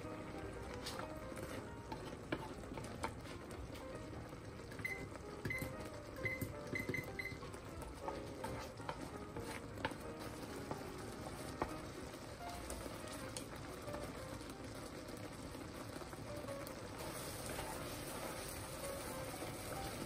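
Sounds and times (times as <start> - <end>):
chopsticks stirring thick sauce: 0.0 - 5.0, 5.7 - 16.1, 16.8 - 20.0
sauce simmering in a pan: 0.0 - 20.0.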